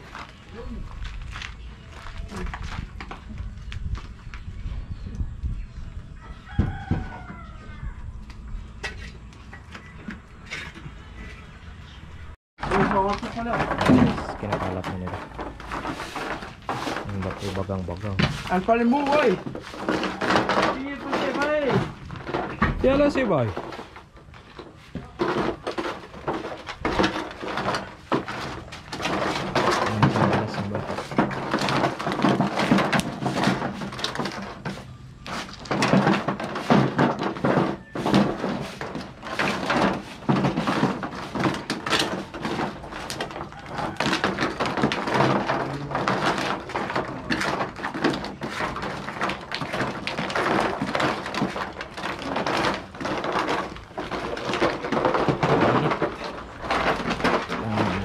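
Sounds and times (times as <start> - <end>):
stones clattering and knocking: 0.0 - 4.6, 12.6 - 58.0.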